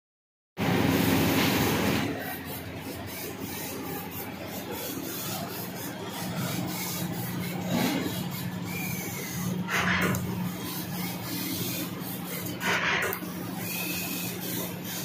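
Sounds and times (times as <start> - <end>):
laser cutter hissing and humming: 0.6 - 15.0.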